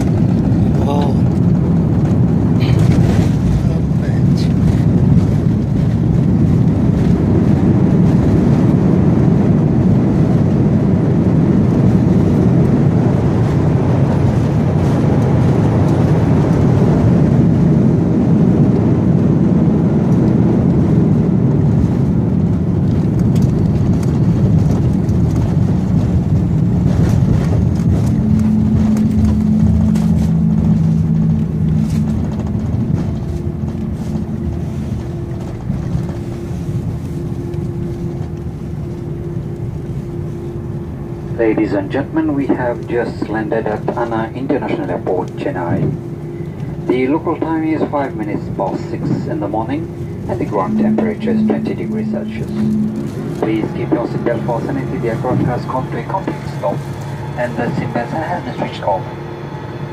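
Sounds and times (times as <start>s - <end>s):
jet engine and runway rush: 0.0s - 59.9s
steady humming tones: 0.0s - 59.9s.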